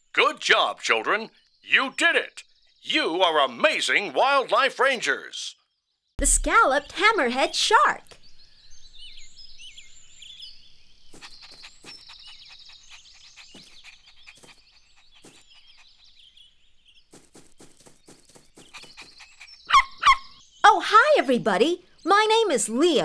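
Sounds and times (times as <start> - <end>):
faint birdsong chirps: 0.0 - 23.0.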